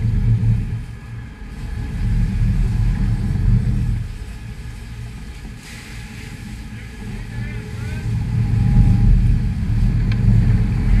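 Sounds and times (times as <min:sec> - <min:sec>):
boat engines rumbling: 0:00.0 - 0:11.0
churning wake water: 0:00.0 - 0:11.0.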